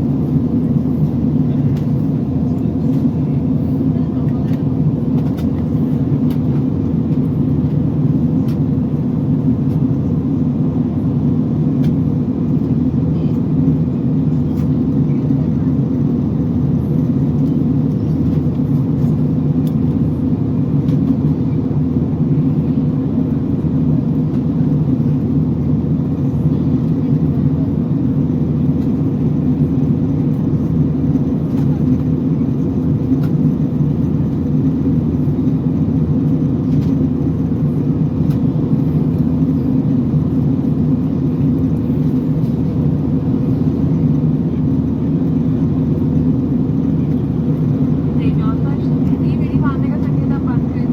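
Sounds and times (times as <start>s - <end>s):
airliner cabin drone: 0.0s - 50.9s.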